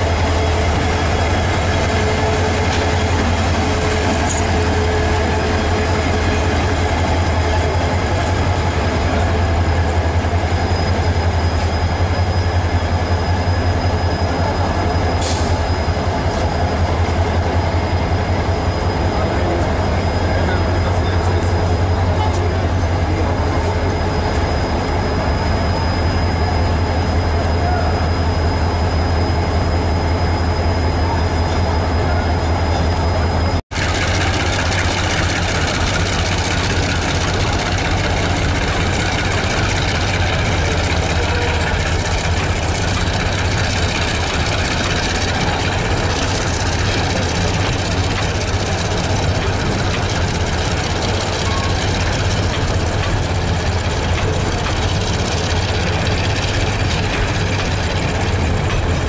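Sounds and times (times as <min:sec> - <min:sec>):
diesel locomotive idling hum: 0:00.0 - 0:59.0
freight train wheels on rail: 0:00.0 - 0:59.0.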